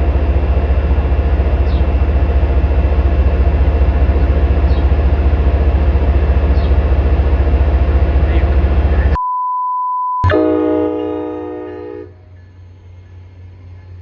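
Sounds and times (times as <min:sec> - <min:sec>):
locomotive diesel engine throbbing: 0:00.0 - 0:09.2, 0:10.2 - 0:14.0.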